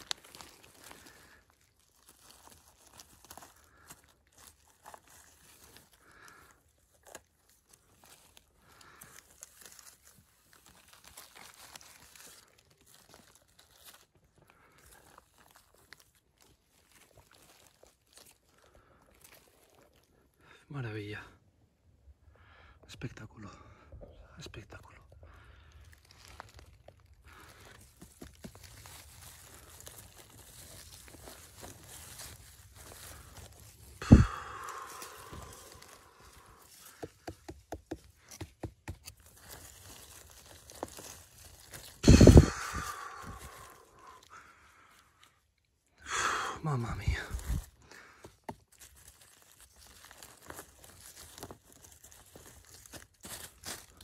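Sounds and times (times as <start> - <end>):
dry leaves crackling: 0.0 - 20.6, 25.3 - 45.4, 46.6 - 54.0.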